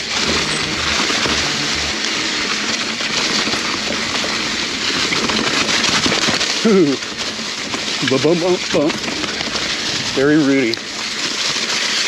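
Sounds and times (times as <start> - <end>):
bike clicks and rattles: 0.0 - 12.0
bike tyres crackling through dry leaves: 0.0 - 12.0.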